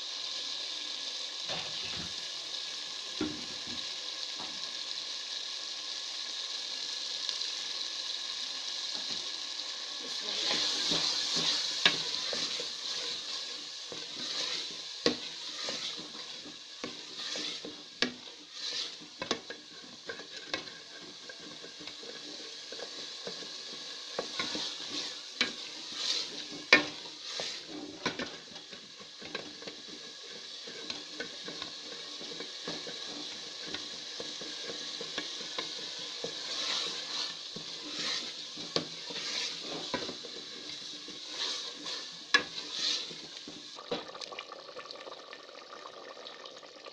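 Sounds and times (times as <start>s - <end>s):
curry sizzling in a metal pot: 0.0s - 46.9s.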